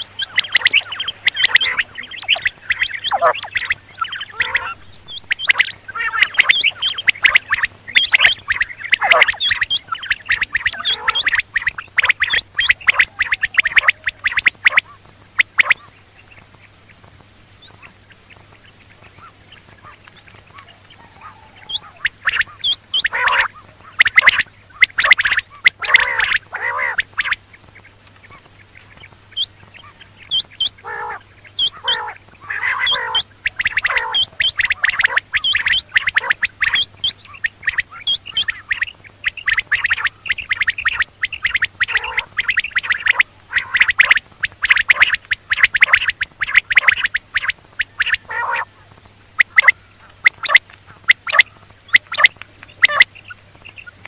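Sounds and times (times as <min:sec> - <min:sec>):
quail calling: 0:00.0 - 0:17.0, 0:17.6 - 0:54.0
faint low hum: 0:00.0 - 0:54.0.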